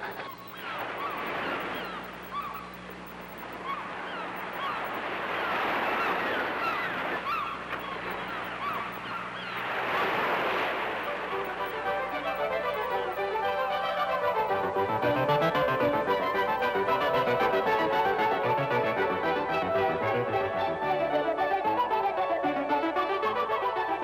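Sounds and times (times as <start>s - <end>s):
honking bird calls: 0.0s - 20.6s
waves washing in: 0.0s - 21.8s
faint steady hum: 0.0s - 24.0s.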